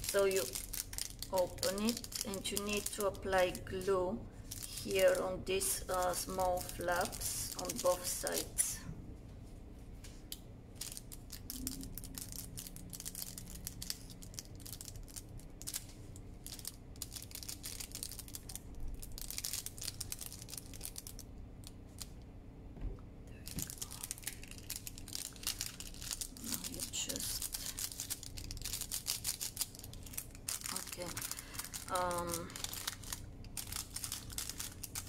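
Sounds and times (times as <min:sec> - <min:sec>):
paper baking cup crinkling: 0:00.0 - 0:03.8, 0:04.4 - 0:08.7, 0:10.8 - 0:22.1, 0:23.4 - 0:35.0.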